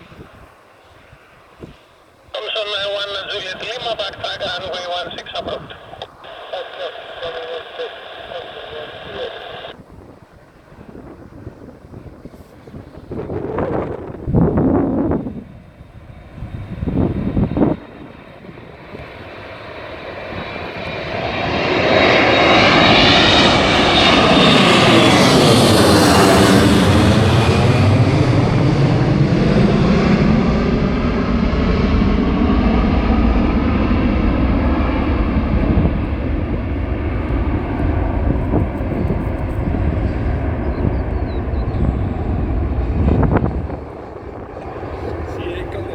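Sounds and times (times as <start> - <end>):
airliner taking off: 0.0 - 45.9.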